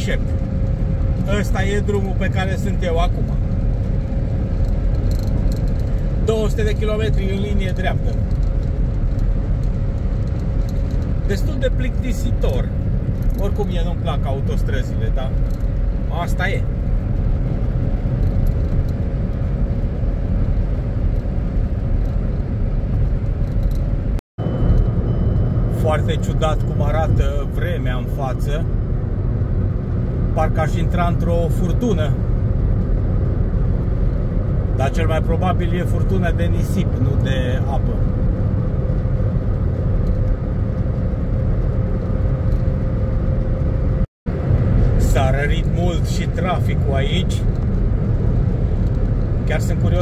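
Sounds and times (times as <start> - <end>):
road and tyre rumble inside car: 0.0 - 50.0.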